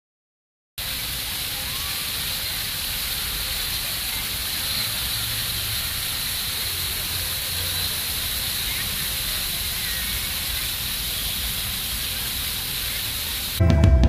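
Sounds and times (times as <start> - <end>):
fountain water spraying and splashing: 0.8 - 13.6.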